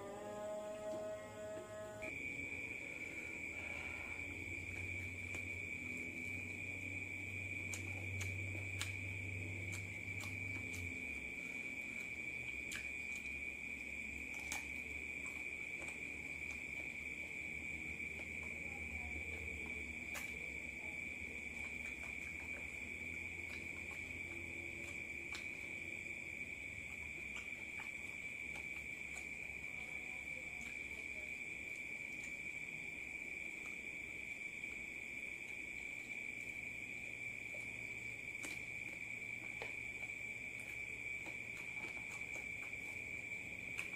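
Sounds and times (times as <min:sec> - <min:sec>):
faint eating clicks: 0:00.0 - 0:43.9
insect trill: 0:00.0 - 0:43.9.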